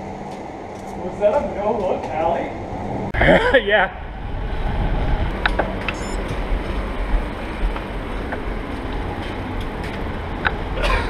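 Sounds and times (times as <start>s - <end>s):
wind rumbling on microphone: 0.0s - 10.8s
bicycle road noise: 0.0s - 11.0s.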